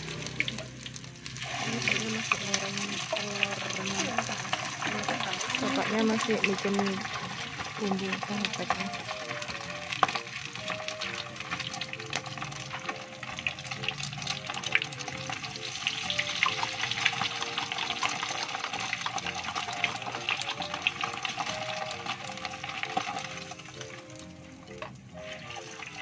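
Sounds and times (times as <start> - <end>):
background music: 0.0 - 26.0
oil frying in a wok: 0.0 - 26.0.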